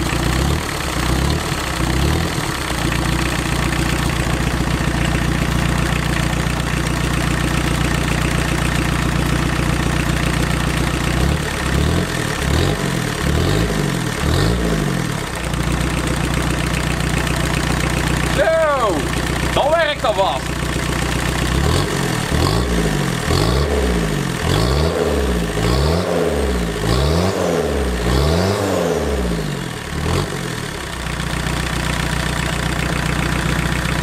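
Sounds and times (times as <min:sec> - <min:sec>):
diesel engine idling and revving: 0:00.0 - 0:34.0.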